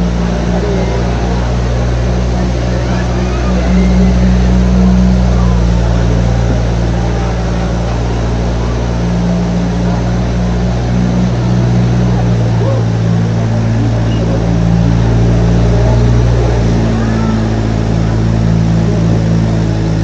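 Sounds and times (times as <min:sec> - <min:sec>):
tram motor droning: 0:00.0 - 0:20.0.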